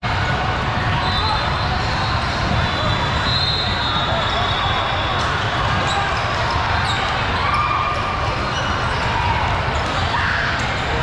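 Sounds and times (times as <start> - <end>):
spectators' voices: 0.0 - 11.0.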